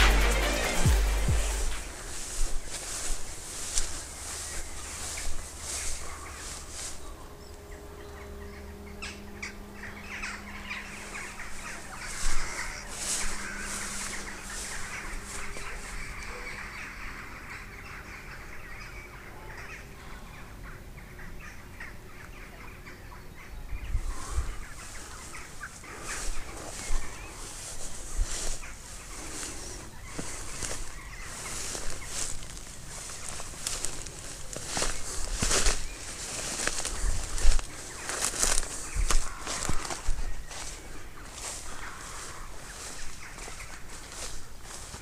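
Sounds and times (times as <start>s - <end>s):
birds calling and chattering: 0.0s - 45.0s.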